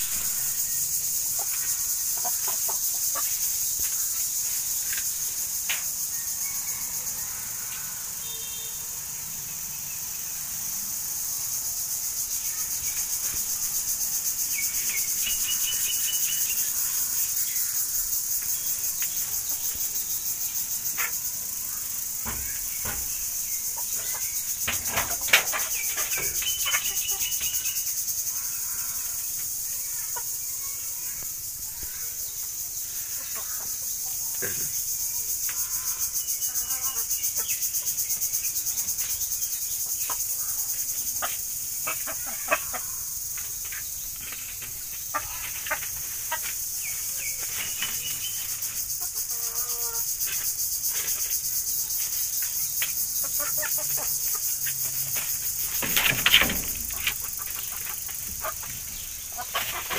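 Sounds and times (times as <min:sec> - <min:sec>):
chickens calling: 0:00.0 - 0:08.2, 0:12.0 - 0:34.4, 0:35.4 - 0:59.9
insects trilling: 0:00.0 - 0:59.9.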